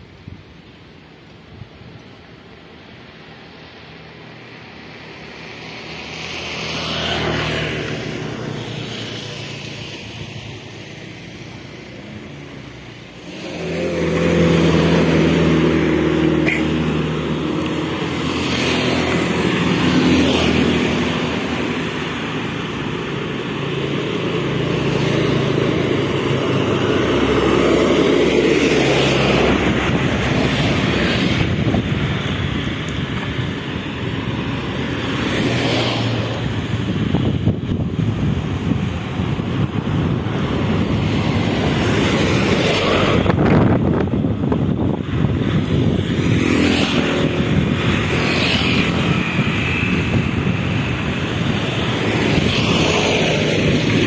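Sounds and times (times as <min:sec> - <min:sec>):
vehicles passing on road: 0:00.0 - 0:54.0.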